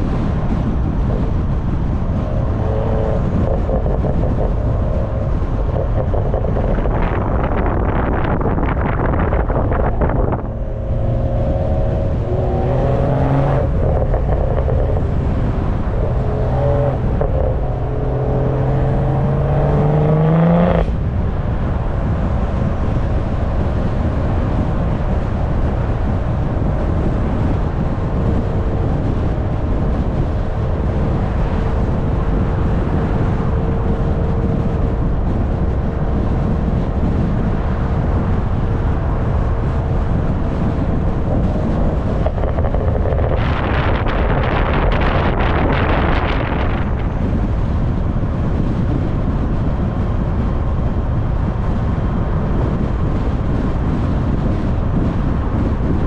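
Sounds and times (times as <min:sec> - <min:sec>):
car engine accelerating: 0:00.0 - 0:56.0
wind buffeting microphone: 0:00.0 - 0:56.0.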